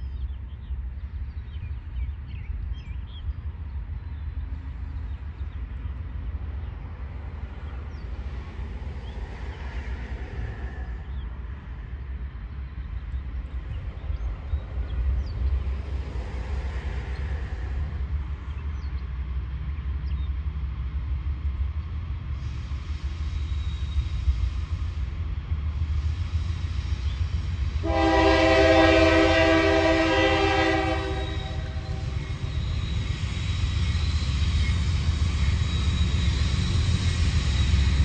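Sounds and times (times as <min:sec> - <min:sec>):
diesel locomotive rumble: 0:00.0 - 0:38.0.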